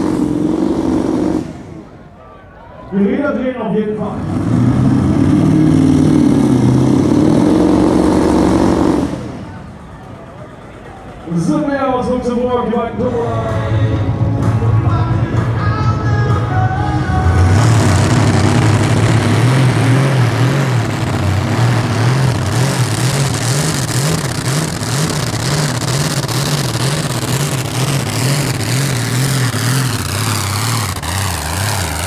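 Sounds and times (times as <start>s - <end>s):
tractor engine at full throttle: 0.0s - 2.3s, 3.0s - 32.0s.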